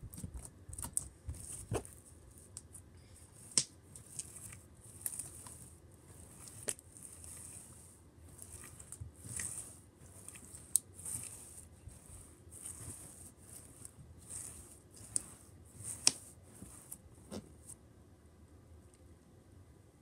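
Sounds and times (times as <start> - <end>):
slime swishing on a mat: 0.0 - 17.8.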